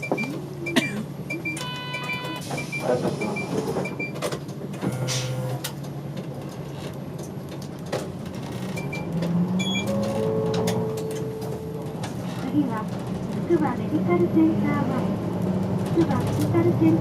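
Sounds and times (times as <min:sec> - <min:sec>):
bus engine hum: 0:00.0 - 0:17.0.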